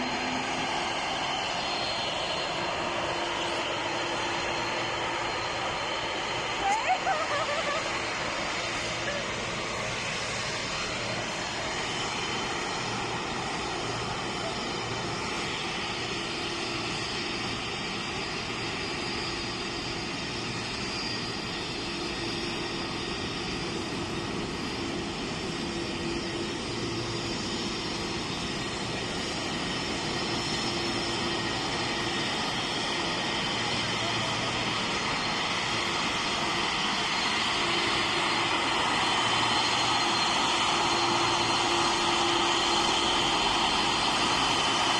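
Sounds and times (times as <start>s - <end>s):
high turbine whine: 0.0s - 44.9s
jet engine rumble: 0.0s - 44.9s.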